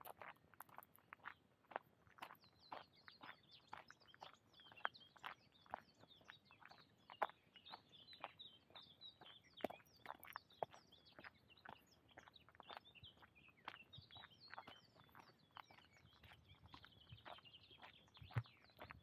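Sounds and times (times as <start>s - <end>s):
footsteps on woodland path: 0.0s - 19.0s
small birds chirping: 0.0s - 19.0s.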